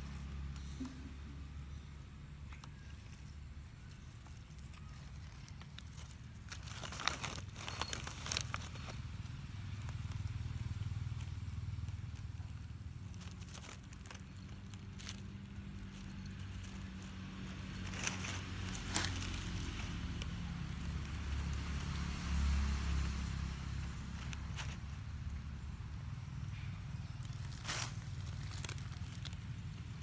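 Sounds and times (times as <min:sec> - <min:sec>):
dry leaves crackling and rustling: 0:00.0 - 0:30.0.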